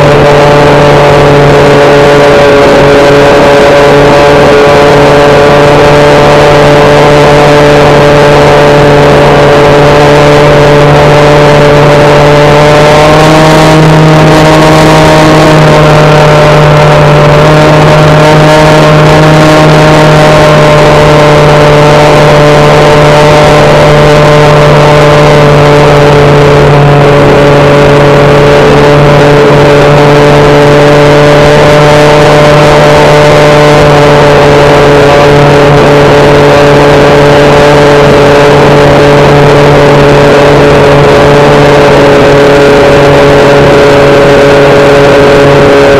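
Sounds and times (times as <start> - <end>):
model plane motor drone: 0.0 - 45.9.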